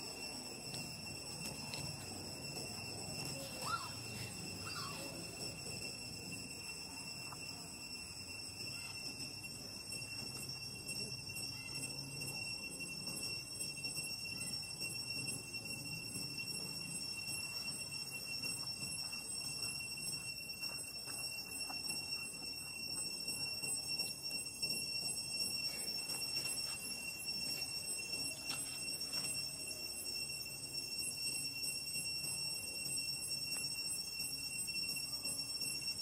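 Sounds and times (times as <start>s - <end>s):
faint outdoor ambience: 0.0s - 36.0s
high-pitched insect drone: 0.0s - 36.0s.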